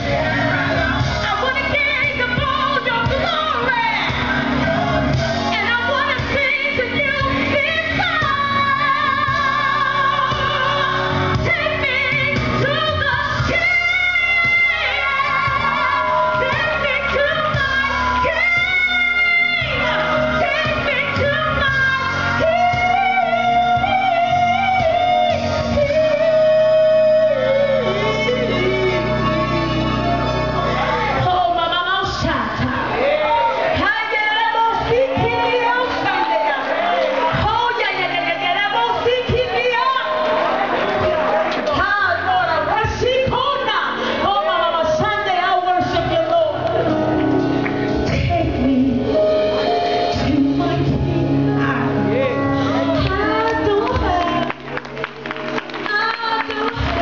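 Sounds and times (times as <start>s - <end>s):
person singing gospel: 0.0s - 54.8s
musical accompaniment: 0.0s - 57.0s.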